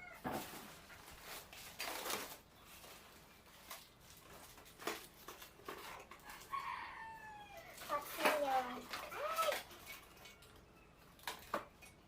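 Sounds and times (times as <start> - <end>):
plastic packaging crinkling: 0.3 - 12.0.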